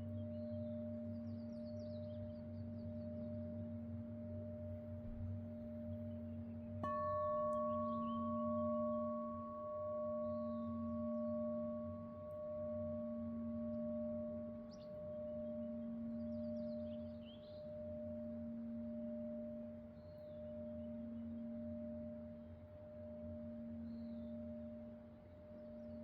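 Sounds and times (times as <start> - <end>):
faint bird chirps: 0.0 - 4.4, 5.0 - 22.5, 23.2 - 26.0
singing bowl ringing: 0.0 - 26.0.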